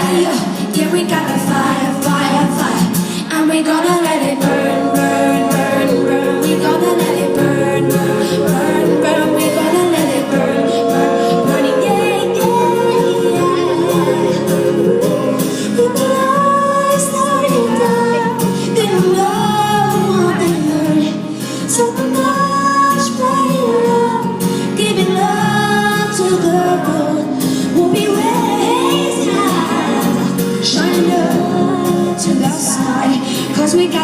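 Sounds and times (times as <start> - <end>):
band playing pop song: 0.0 - 34.0
woman singing: 0.0 - 34.0.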